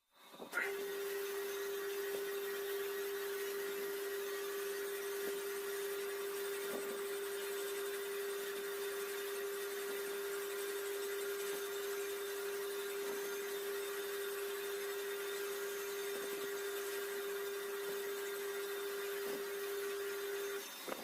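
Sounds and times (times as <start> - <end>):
metal lathe whining: 0.2 - 21.0.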